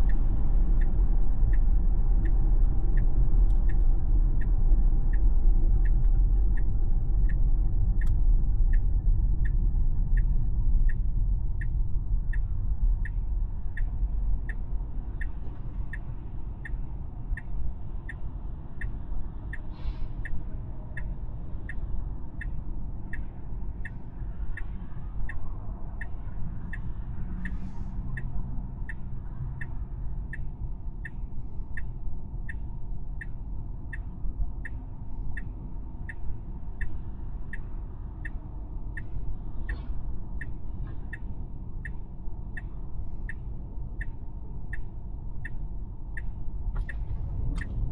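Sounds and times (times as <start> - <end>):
road and tyre rumble: 0.0 - 47.9
turn signal ticking: 0.0 - 47.9.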